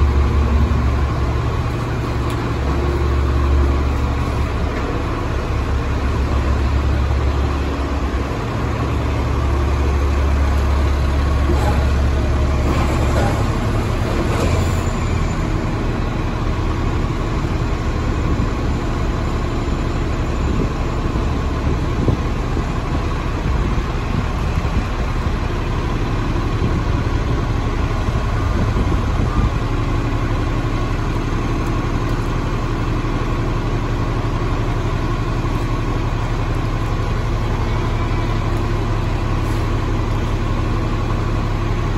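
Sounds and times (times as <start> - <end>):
diesel bus engine idling: 0.0 - 41.9
other buses idling: 0.0 - 41.9.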